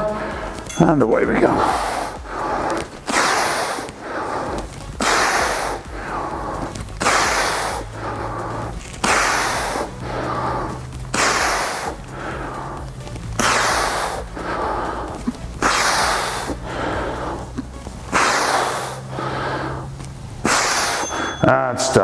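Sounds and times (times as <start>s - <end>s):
man breathing hard: 0.0s - 0.8s, 1.4s - 21.4s.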